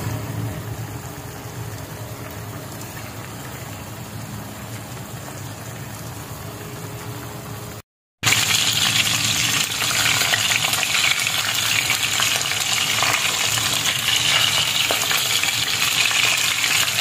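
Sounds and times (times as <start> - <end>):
water boiling in a pan: 0.0 - 17.0.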